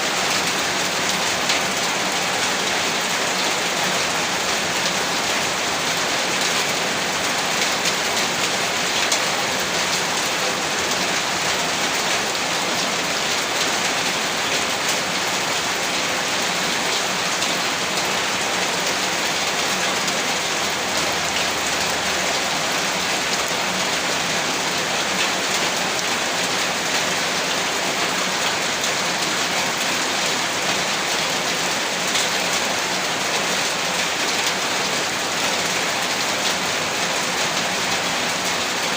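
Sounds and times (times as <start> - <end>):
heavy rain on a rooftop: 0.0 - 38.9.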